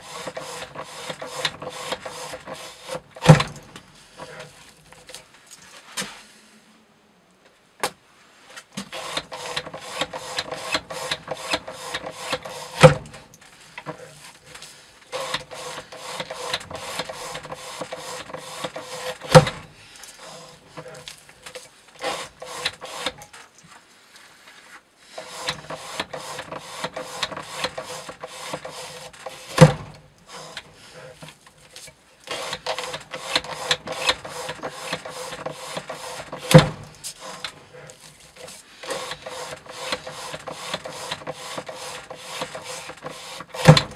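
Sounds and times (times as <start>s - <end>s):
knife blade rasping through rope: 0.0s - 4.6s, 8.8s - 13.2s, 13.8s - 23.3s, 25.2s - 43.9s.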